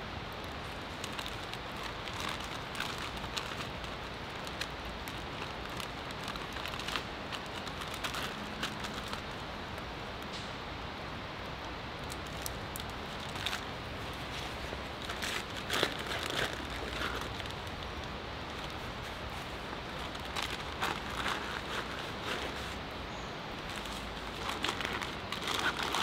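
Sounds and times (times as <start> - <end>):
campfire crackling and hissing: 0.0 - 26.0.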